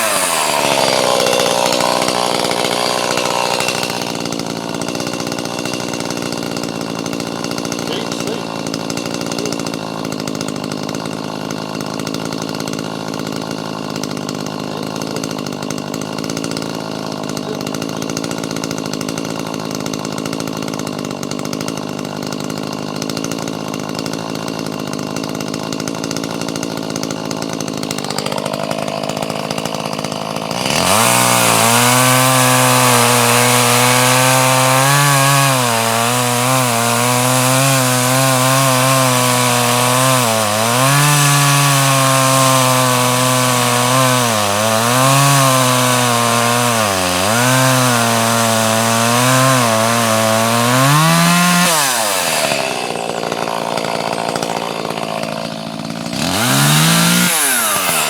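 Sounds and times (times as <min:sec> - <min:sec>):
chainsaw idling: 0:00.0 - 0:58.0
chainsaw revving and cutting wood: 0:00.0 - 0:58.0.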